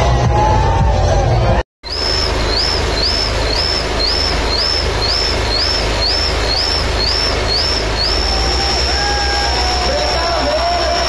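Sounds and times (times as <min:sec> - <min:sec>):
high electronic chirp: 0:01.8 - 0:11.0
tractor engines running hard: 0:01.9 - 0:11.0.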